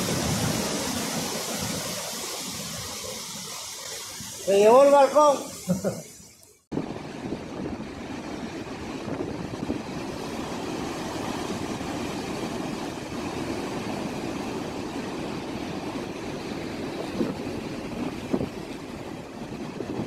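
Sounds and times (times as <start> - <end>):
waves crashing over seawall: 0.0 - 20.0.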